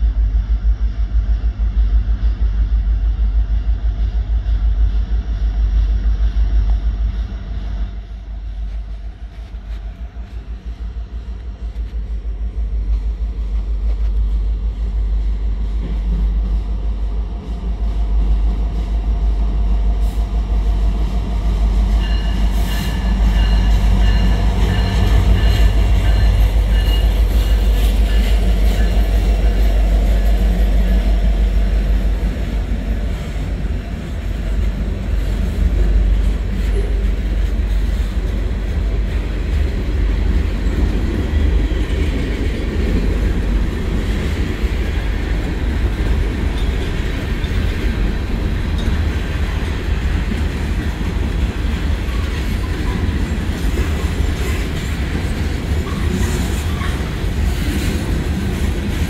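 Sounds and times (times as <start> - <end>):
diesel locomotive engine rumble: 0.0 - 59.0
train wheels on rails: 0.0 - 59.0.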